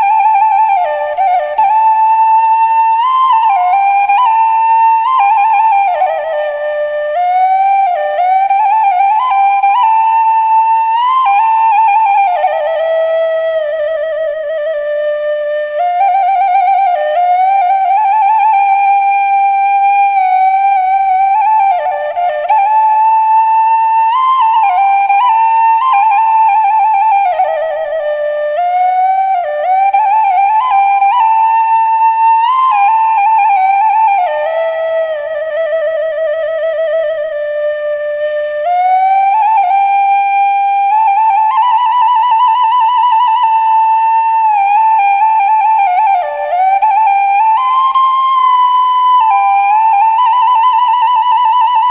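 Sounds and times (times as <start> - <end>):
solo flute melody: 0.0 - 51.9.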